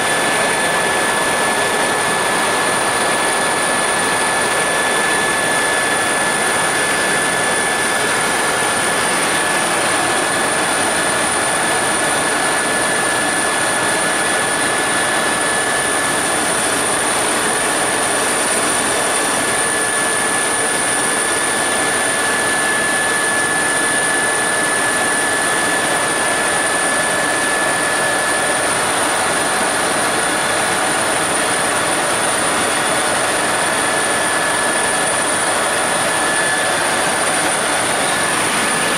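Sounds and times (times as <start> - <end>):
helicopter cabin noise: 0.0 - 38.9.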